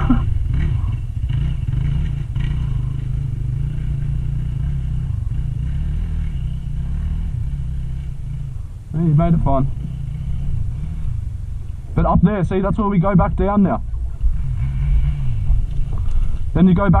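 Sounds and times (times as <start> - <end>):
dirt bike engine at low revs: 0.0 - 17.0.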